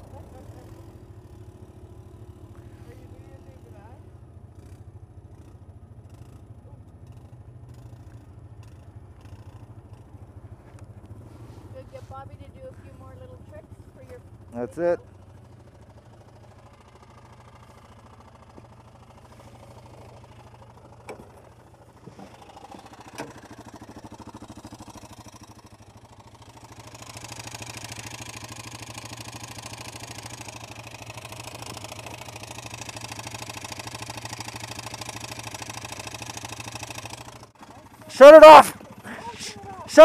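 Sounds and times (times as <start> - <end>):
engine rumble: 0.0 - 40.0.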